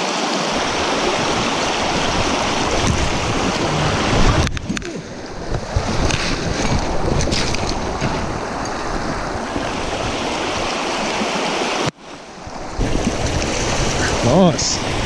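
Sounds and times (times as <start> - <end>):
river rushing over gravel: 0.0 - 15.0
wind buffeting microphone: 0.5 - 11.4, 12.4 - 15.0.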